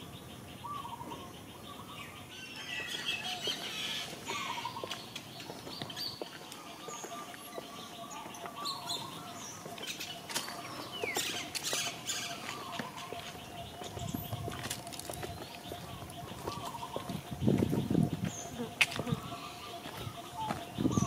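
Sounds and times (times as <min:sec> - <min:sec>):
outdoor ambience: 0:00.0 - 0:21.0
small birds chirping: 0:00.0 - 0:21.0.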